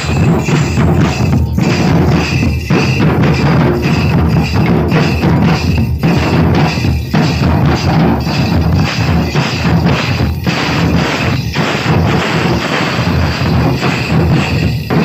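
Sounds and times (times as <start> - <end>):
hand drums beating a dance rhythm: 0.0 - 15.0.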